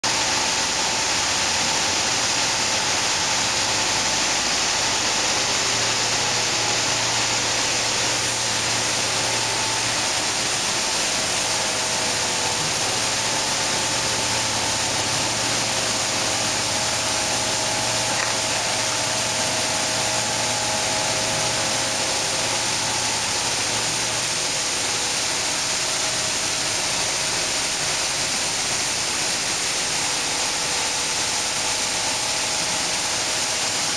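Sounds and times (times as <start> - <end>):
loud machine noise with high hiss: 0.0 - 33.9.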